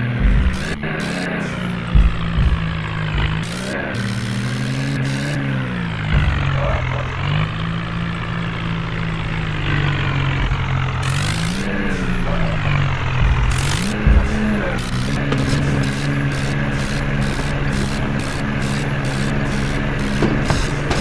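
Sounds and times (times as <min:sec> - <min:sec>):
tractor engine revving: 0:00.0 - 0:21.0.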